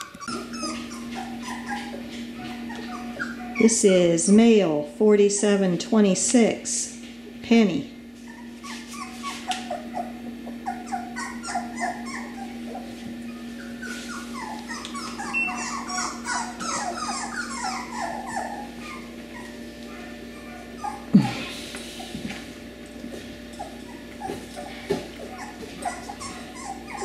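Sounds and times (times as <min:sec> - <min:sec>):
puppies whimpering: 0:00.0 - 0:04.3, 0:08.1 - 0:22.2, 0:23.4 - 0:27.0
steady low hum: 0:00.0 - 0:27.0.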